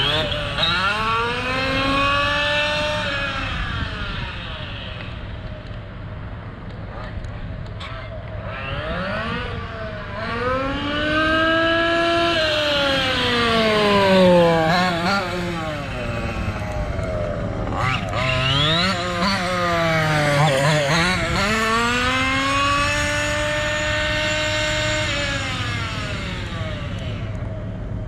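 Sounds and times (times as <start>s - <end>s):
small two-stroke engine revving: 0.0s - 5.4s, 6.9s - 27.8s.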